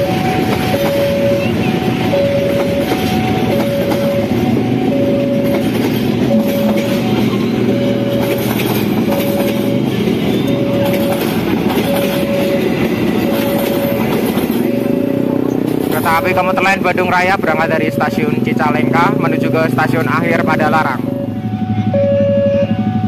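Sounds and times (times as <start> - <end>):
wheels clacking over rails: 0.0 - 22.4
level crossing signal beeping: 0.0 - 23.0
train rumbling past: 0.0 - 23.0.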